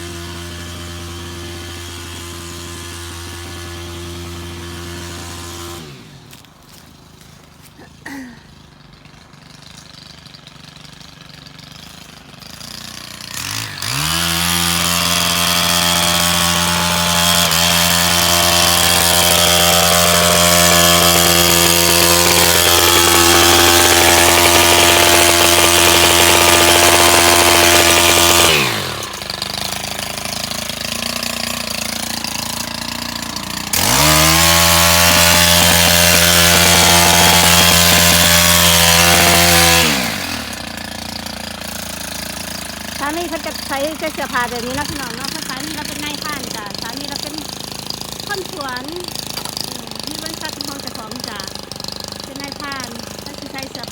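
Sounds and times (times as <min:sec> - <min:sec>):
small petrol engine revving: 0:00.0 - 0:53.9.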